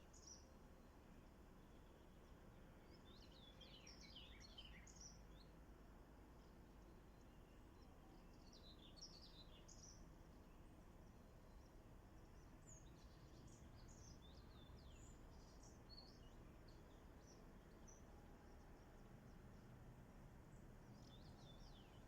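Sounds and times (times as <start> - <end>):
low outdoor background hum: 0.0 - 22.0
songbirds chirping and twittering: 0.0 - 22.0.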